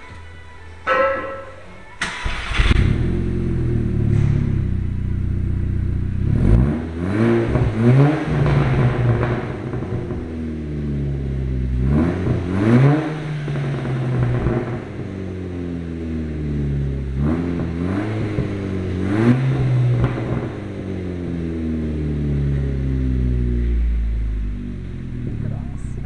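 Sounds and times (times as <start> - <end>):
car engine idling and revving: 2.0 - 26.0.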